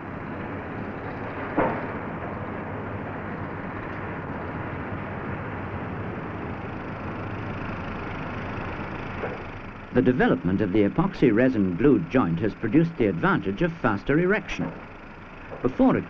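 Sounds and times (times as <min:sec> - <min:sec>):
construction site rumbling: 0:00.0 - 0:16.0.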